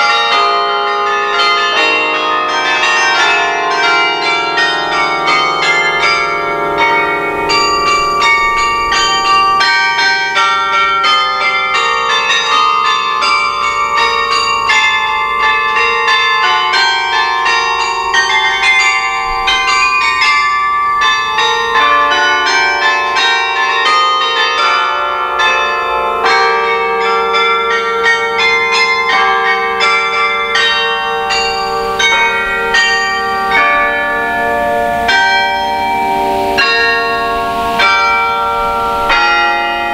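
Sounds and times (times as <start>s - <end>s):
carillon bells playing a carol: 0.0s - 39.9s.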